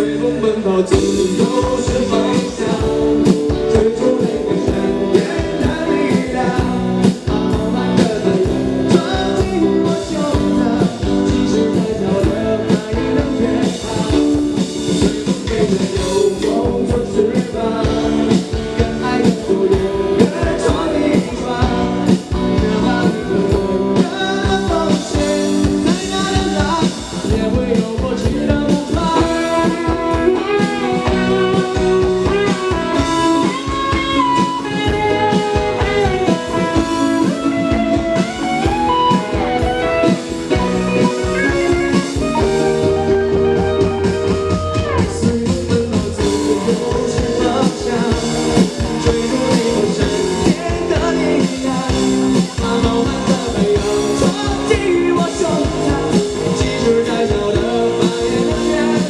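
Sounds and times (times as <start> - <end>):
bass guitar: 0.0 - 59.0
drum kit: 0.0 - 59.0
electric lead guitar melody: 0.0 - 59.0.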